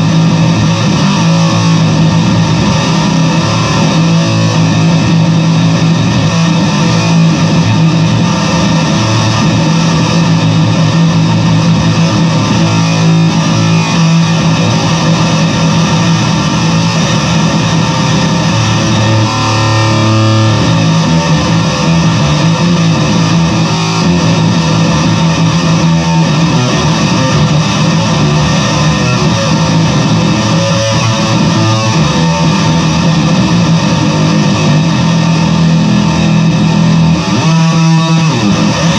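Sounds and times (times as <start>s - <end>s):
distorted bass guitar notes: 0.0s - 38.9s.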